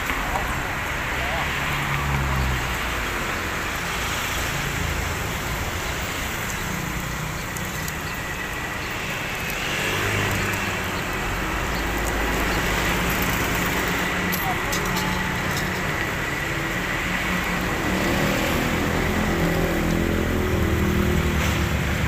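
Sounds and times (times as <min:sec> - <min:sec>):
passing traffic hum: 0:00.0 - 0:22.0.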